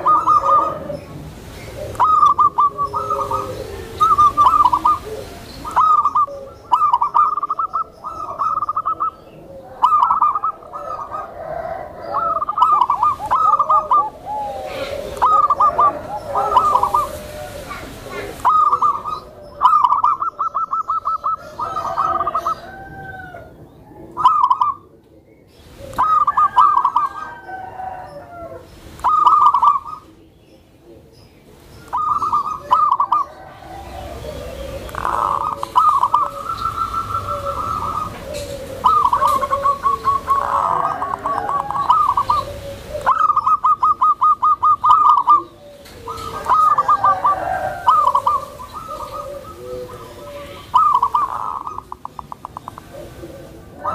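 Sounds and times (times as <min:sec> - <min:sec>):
softer lower dove calls: 0:00.0 - 0:25.0, 0:25.6 - 0:53.9
doves cooing: 0:00.0 - 0:53.9.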